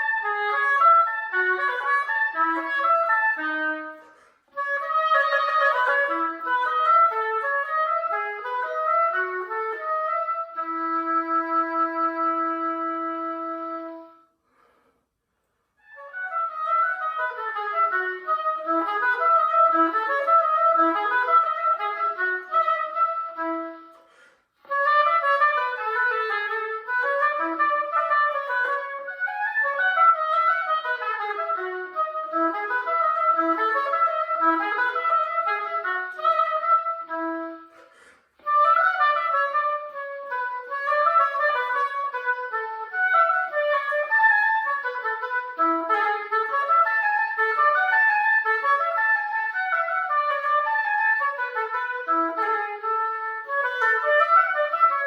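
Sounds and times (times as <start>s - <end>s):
solo oboe playing: 0.0s - 14.9s, 15.8s - 55.0s.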